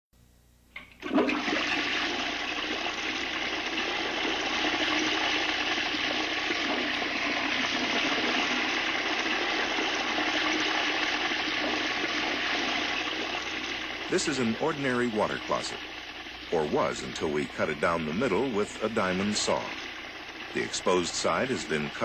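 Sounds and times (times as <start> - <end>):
toilet flushing water rushing: 0.8 - 22.0.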